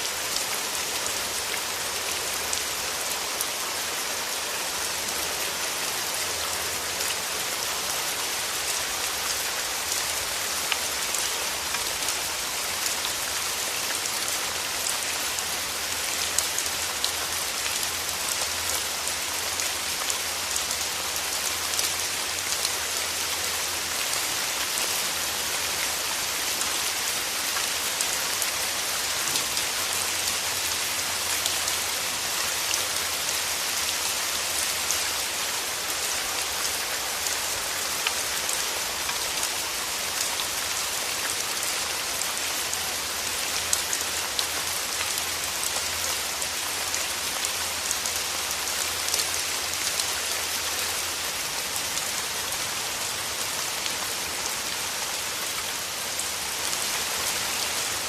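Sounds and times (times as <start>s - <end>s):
rain pattering on leaves: 0.0s - 58.0s.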